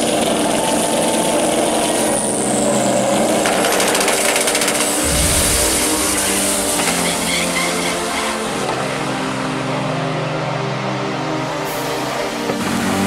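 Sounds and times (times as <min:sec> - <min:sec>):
drag car engines accelerating: 0:00.0 - 0:13.0.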